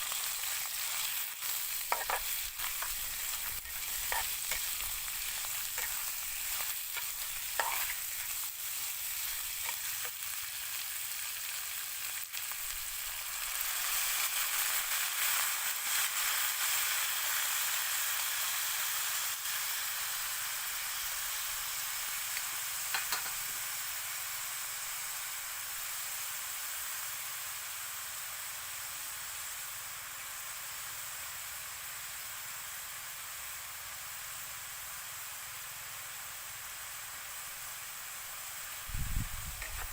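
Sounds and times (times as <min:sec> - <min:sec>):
meat sizzling in a pan: 0:00.0 - 0:39.9.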